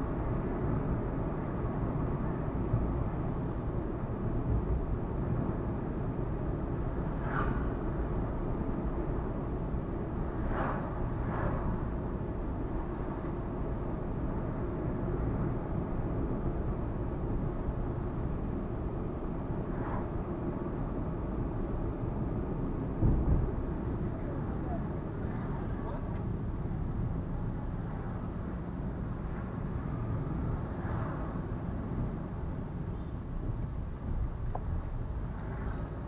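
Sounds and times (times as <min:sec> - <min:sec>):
vehicle road and engine rumble: 0:00.0 - 0:36.0.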